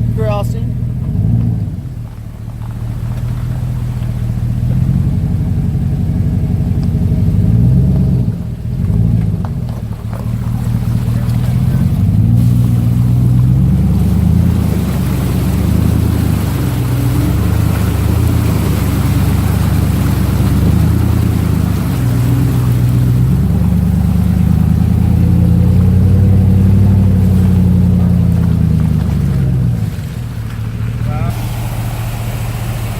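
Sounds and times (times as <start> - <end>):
truck engine under load: 0.0 - 32.9
water rushing and splashing: 0.0 - 32.9.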